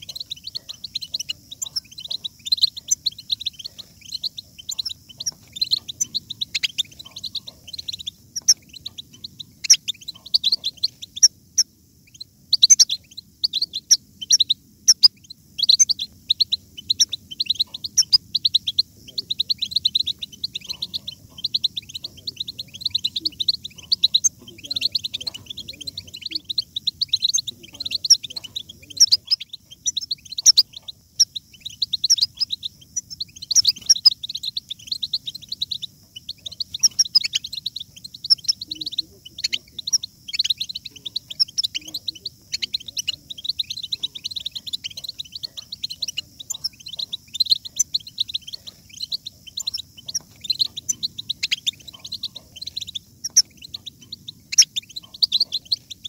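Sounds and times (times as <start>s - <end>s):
finches twittering: 0.0s - 56.0s.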